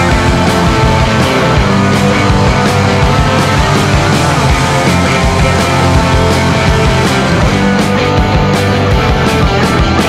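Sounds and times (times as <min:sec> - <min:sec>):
rock music with distorted guitars: 0:00.0 - 0:10.0
steady drum beat: 0:00.0 - 0:10.0.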